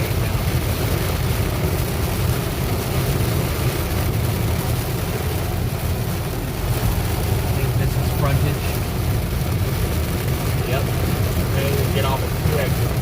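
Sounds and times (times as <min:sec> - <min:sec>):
car engine and tyres rumble: 0:00.0 - 0:13.0
rain hiss: 0:00.0 - 0:13.0.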